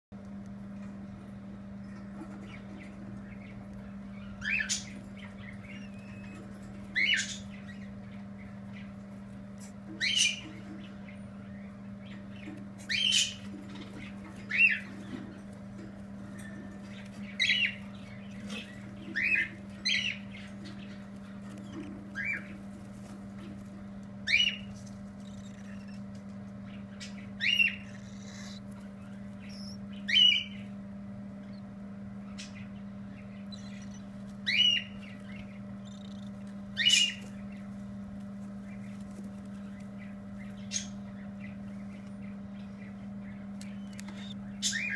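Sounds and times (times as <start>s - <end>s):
steady low hum: 0.1s - 44.9s
baby birds squawking: 1.9s - 44.9s.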